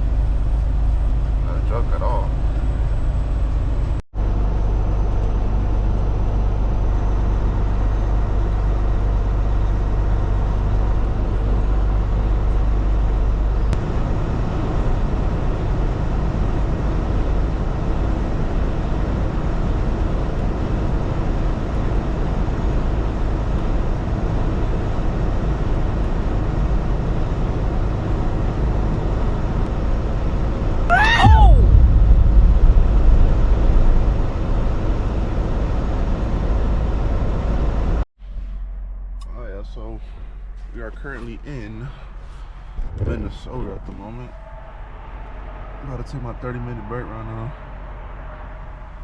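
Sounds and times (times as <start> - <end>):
truck engine rumble: 0.0 - 49.0.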